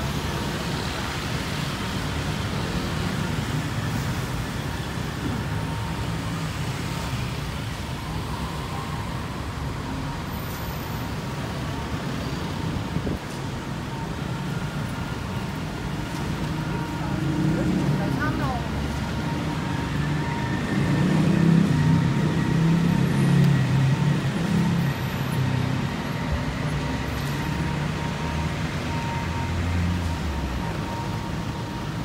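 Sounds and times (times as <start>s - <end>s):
cars and vans passing: 0.0s - 32.0s.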